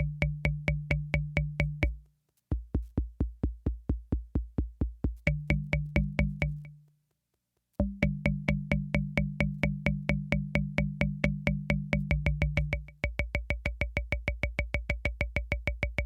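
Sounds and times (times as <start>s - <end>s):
drum machine thumps and clicks: 0.0s - 6.8s, 7.8s - 16.0s.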